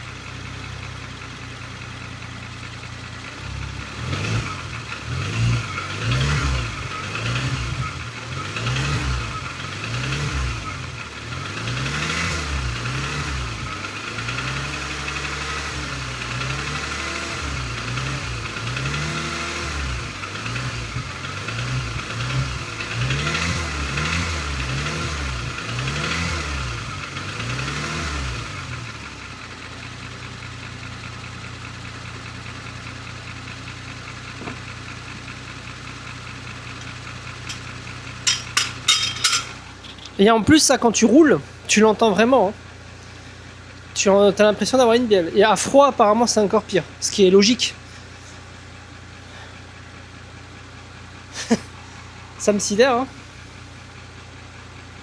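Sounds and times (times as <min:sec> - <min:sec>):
car engine idling and revving: 0:00.0 - 0:55.0
engine knocking: 0:00.0 - 0:55.0.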